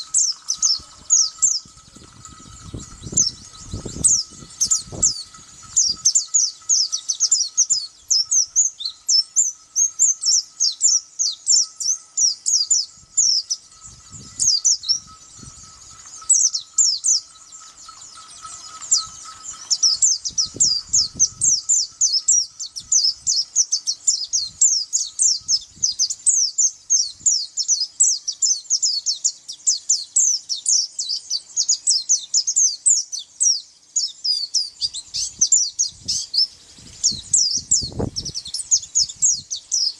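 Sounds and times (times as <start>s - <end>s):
songbird chirping song: 0.0s - 39.9s.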